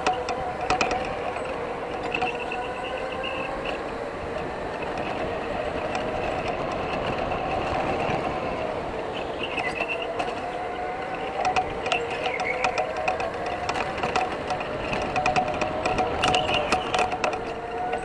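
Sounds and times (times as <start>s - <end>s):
electric motor whine: 0.0s - 18.0s
tyre and chassis noise: 0.0s - 18.0s.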